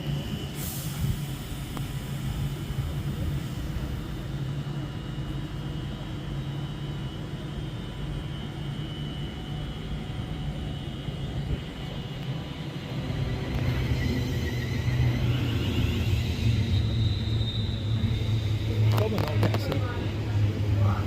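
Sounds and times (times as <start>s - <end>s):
train equipment humming: 0.0s - 21.0s.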